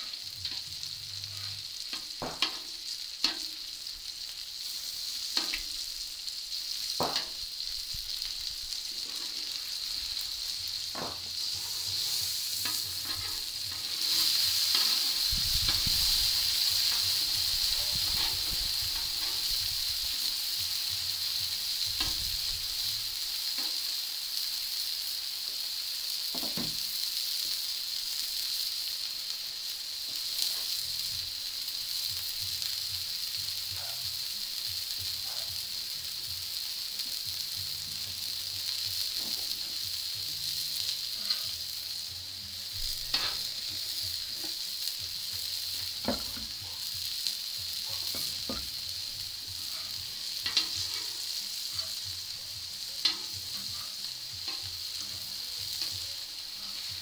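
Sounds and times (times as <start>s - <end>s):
meat sizzling on a griddle: 0.0s - 57.0s.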